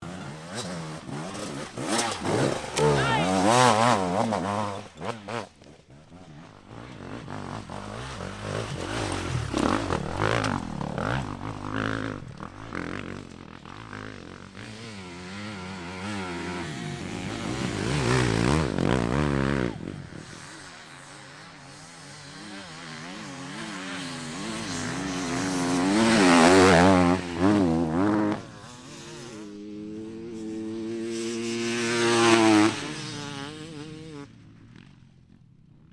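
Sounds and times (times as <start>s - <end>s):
dirt bike engine revving: 0.0s - 34.6s.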